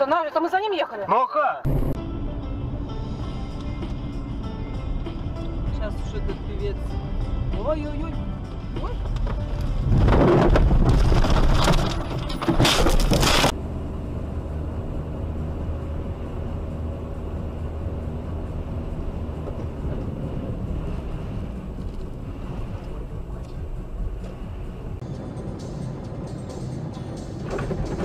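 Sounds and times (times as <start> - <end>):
car engine and tyre rumble: 1.7 - 28.0.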